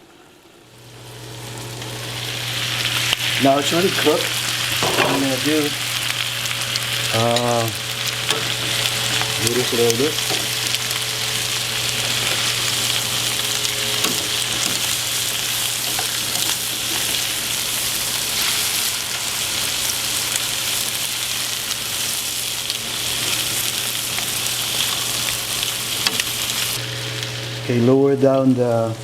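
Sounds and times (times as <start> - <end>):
low steady hum: 0.0 - 29.0
seafood sizzling in a pan: 0.4 - 28.9.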